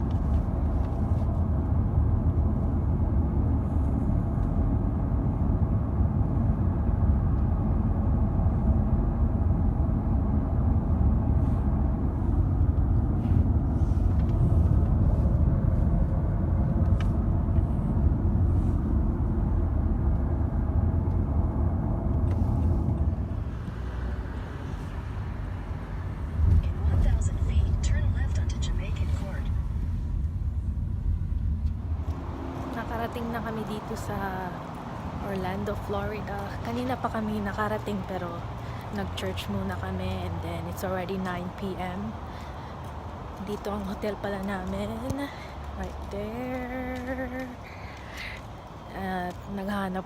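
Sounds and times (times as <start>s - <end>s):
road and engine rumble: 0.0s - 50.0s.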